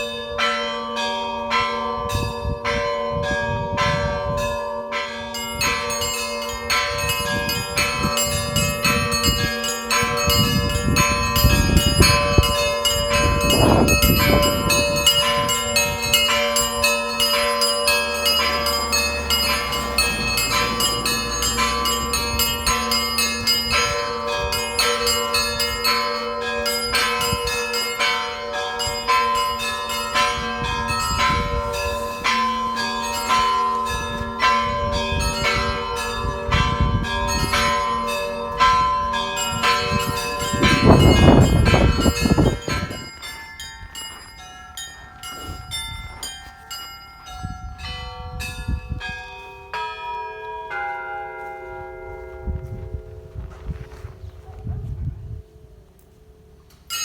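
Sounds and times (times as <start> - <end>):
church bells ringing: 0.0 - 57.0.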